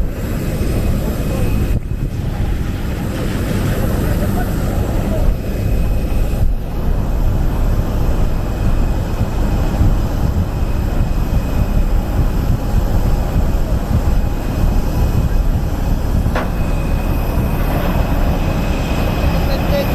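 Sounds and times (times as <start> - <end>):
low machinery rumble: 0.0 - 19.9.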